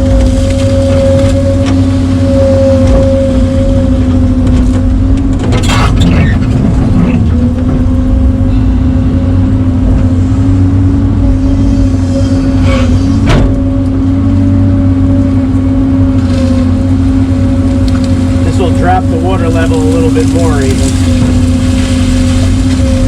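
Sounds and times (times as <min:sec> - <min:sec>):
excavator engine and hydraulics: 0:00.0 - 0:23.0.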